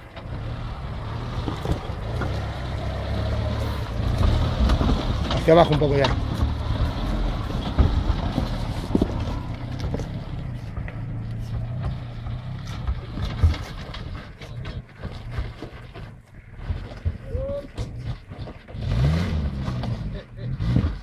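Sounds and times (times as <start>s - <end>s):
engine running at low revs: 0.0s - 21.0s
tyres and chassis knocking on rock: 1.3s - 20.0s.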